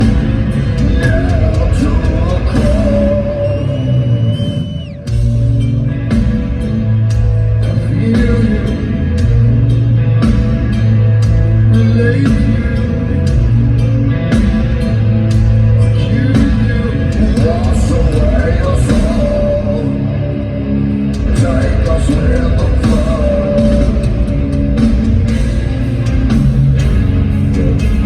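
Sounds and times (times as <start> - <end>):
distorted guitar chords: 0.0 - 28.0
live heavy metal band: 0.0 - 28.0.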